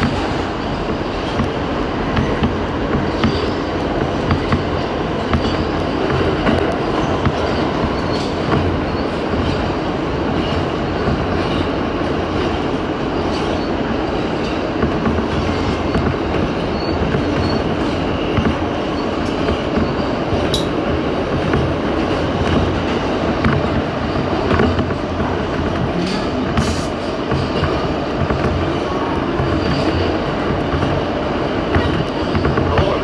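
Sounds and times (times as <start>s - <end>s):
subway train rumble: 0.0s - 33.0s
wheels clicking over rails: 0.0s - 33.0s.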